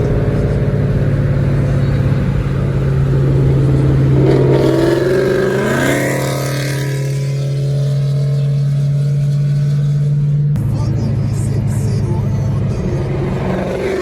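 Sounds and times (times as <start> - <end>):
car engine drone: 0.0 - 14.0
engine revving up: 0.0 - 14.0.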